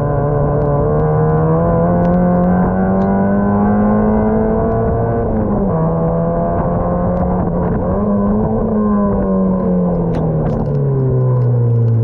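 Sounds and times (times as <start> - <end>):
race car engine under load: 0.0 - 12.0.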